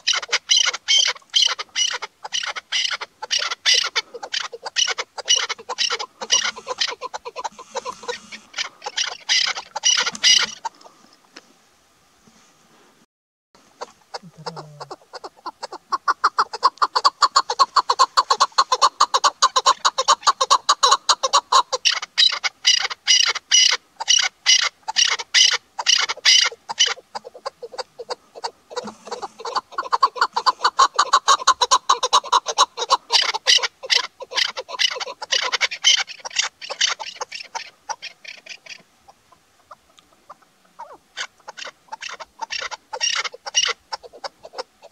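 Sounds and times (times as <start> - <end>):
partridge calling: 0.0 - 11.0, 13.8 - 44.9.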